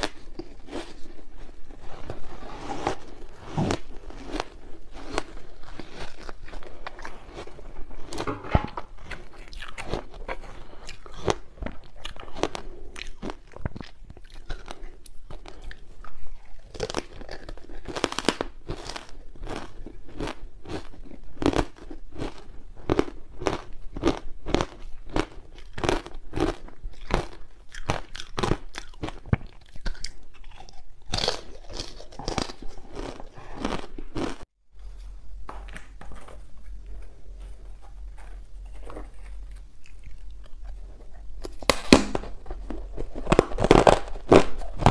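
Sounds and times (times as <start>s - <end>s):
ice crunching being chewed: 0.0s - 34.4s, 35.6s - 41.8s.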